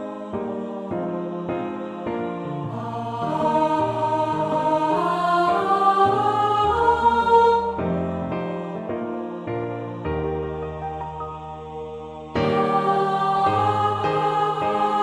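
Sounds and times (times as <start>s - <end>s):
choir singing a hymn: 0.0s - 15.0s
piano accompaniment: 0.0s - 15.0s.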